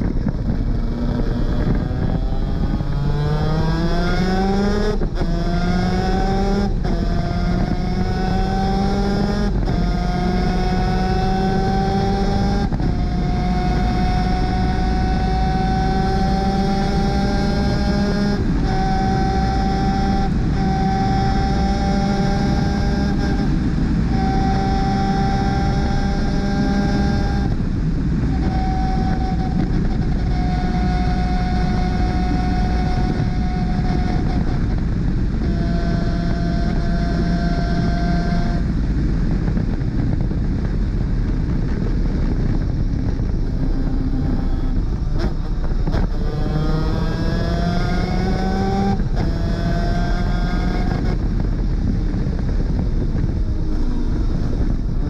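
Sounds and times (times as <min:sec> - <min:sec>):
wind rush: 0:00.0 - 0:55.0
kart engine at high revs: 0:00.5 - 0:38.7, 0:42.4 - 0:51.6.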